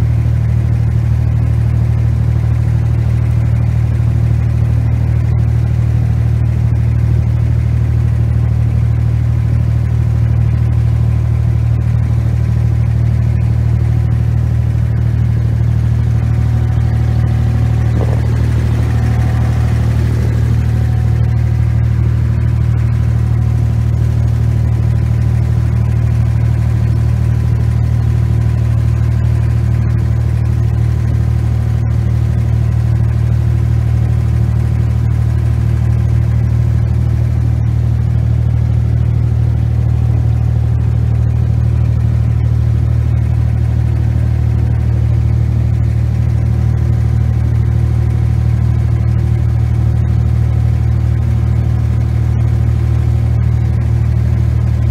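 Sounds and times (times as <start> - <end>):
boat engine droning: 3.0 - 54.9.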